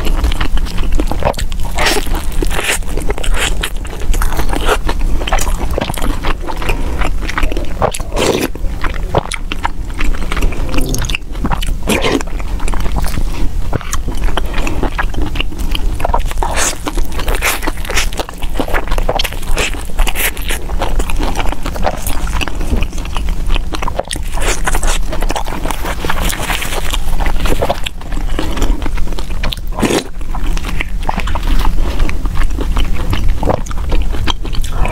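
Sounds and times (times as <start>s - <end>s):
chewing and biting rice ball: 0.0s - 34.9s.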